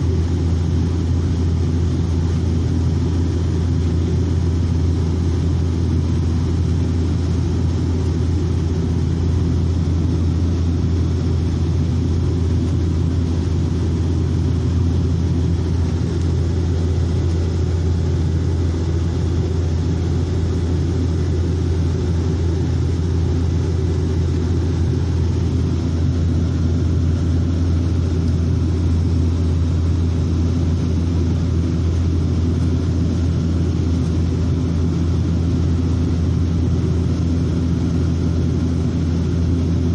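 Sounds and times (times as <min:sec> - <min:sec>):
airliner engines droning in cabin: 0:00.0 - 0:39.9.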